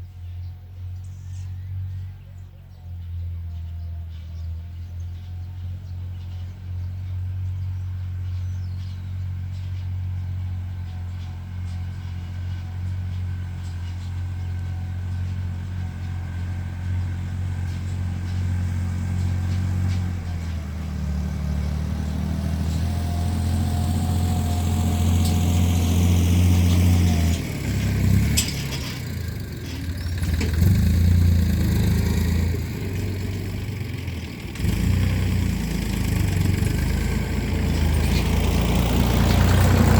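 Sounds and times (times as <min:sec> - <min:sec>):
tractor engine running: 0:03.4 - 0:39.9.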